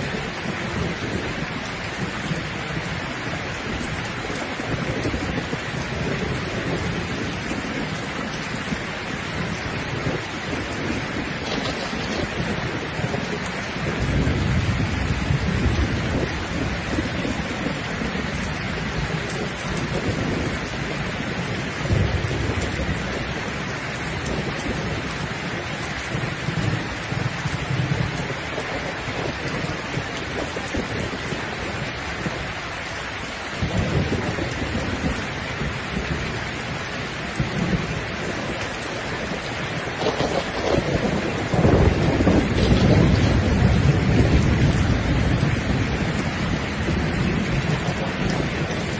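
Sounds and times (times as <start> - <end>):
steady rain falling: 0.0 - 48.9
thunder rumbling: 0.0 - 48.9.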